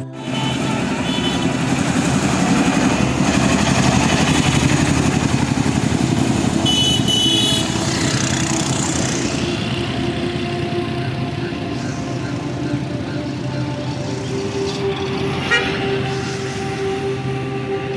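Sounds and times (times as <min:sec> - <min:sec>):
vehicle engine running: 0:00.0 - 0:17.4.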